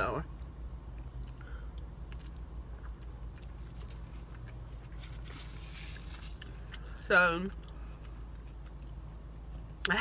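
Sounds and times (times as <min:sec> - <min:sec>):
steady low hum: 0:00.0 - 0:10.0
chewing with wet crunches: 0:00.4 - 0:10.0.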